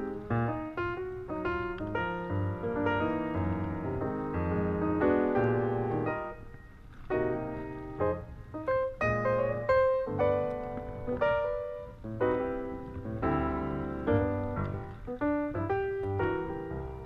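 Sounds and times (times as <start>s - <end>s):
piano melody over low chords: 0.0s - 17.0s.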